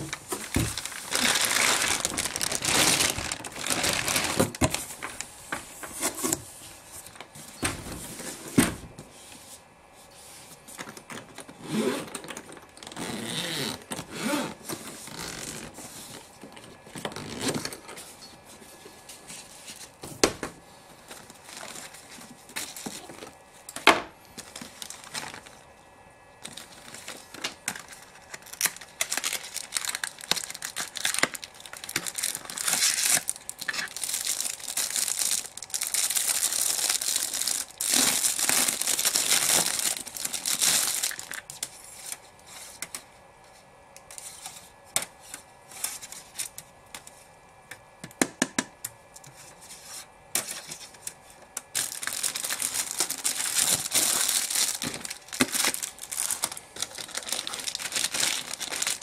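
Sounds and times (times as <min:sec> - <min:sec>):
plastic bags and paper crinkling: 0:00.0 - 0:08.4, 0:10.5 - 0:23.4, 0:24.2 - 0:25.8, 0:26.4 - 0:42.8, 0:49.3 - 0:59.0.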